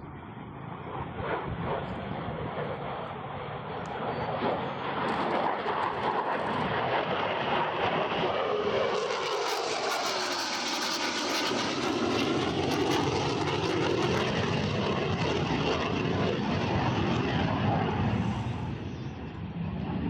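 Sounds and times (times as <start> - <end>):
aircraft engine flying past: 0.0 - 20.0.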